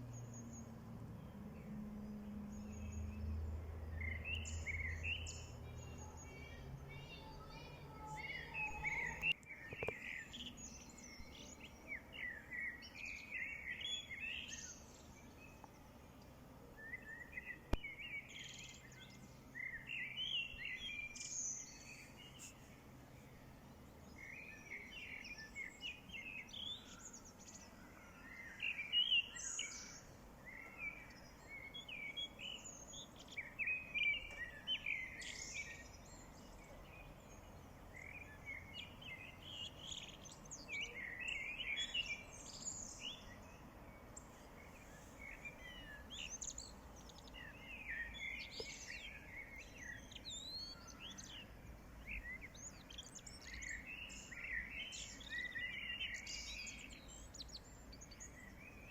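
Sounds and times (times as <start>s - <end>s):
faint background hiss: 0.0s - 58.9s
songbirds chirping and singing: 0.0s - 58.9s.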